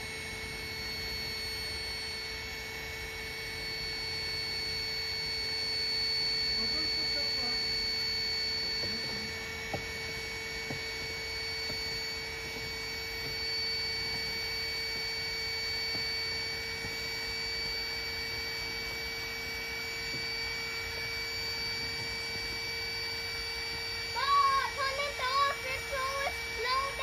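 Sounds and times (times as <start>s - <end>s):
electric air pump whining hum: 0.0s - 27.0s.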